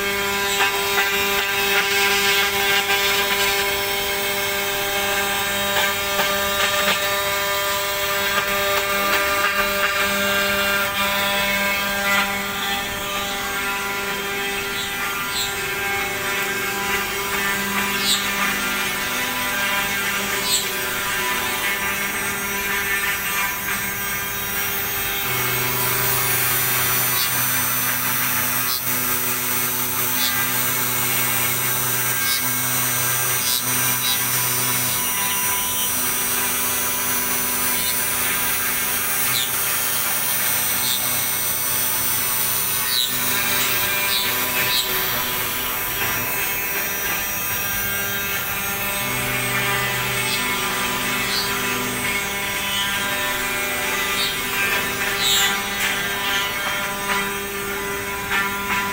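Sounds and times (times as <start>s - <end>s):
cnc router spindle whine: 0.0s - 58.9s.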